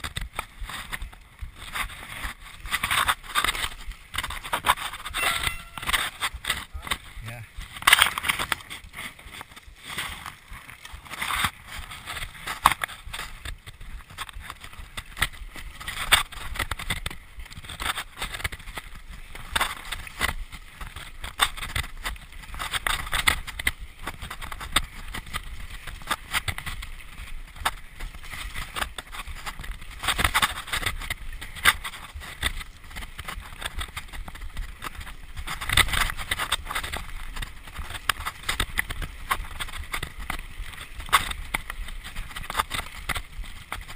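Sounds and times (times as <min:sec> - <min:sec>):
bike knocking and rattling: 0:00.0 - 0:43.9
bike tyres on dirt: 0:00.0 - 0:43.9.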